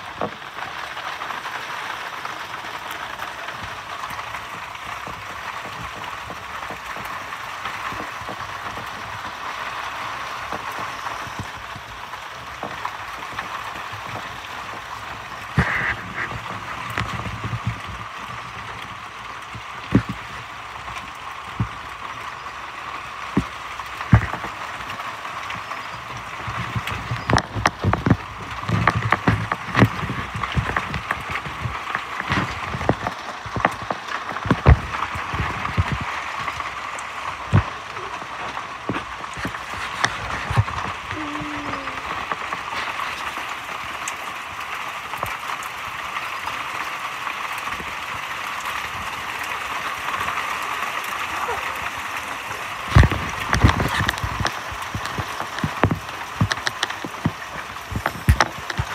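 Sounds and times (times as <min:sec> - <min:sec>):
hailstones knocking on hard surfaces: 0:00.0 - 0:58.9
hailstorm hiss: 0:00.0 - 0:58.9.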